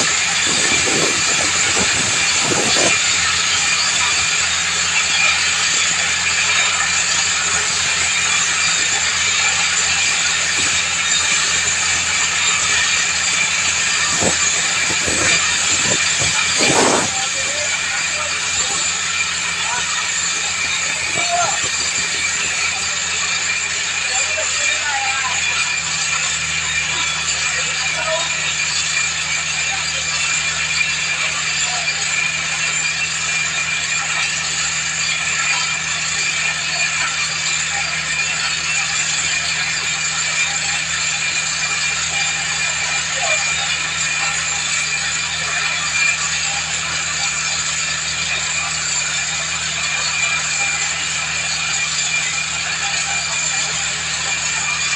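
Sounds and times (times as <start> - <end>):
drilling rig machine hum: 0.0 - 54.9.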